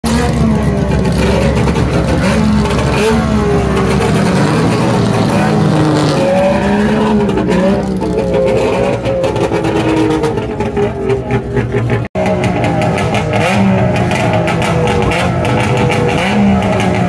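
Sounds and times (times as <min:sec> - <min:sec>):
two-stroke car engine blipping: 0:00.0 - 0:17.0.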